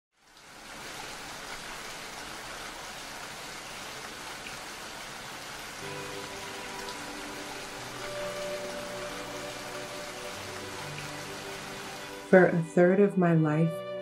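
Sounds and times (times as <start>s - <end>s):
steady rain falling: 0.1s - 12.9s.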